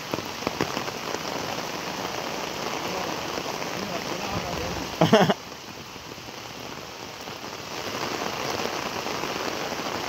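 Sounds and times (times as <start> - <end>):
heavy rain on water: 0.0 - 10.0.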